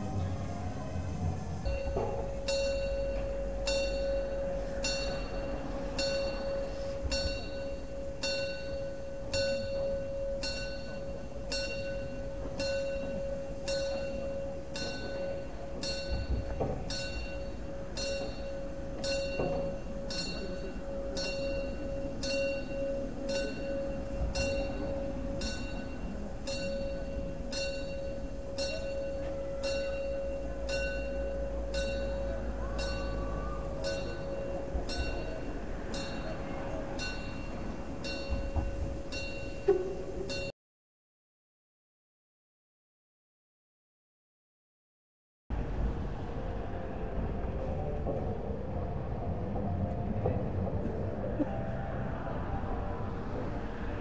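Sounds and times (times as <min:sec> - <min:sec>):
continuous steady tone: 0:00.0 - 0:40.5, 0:45.5 - 0:54.0.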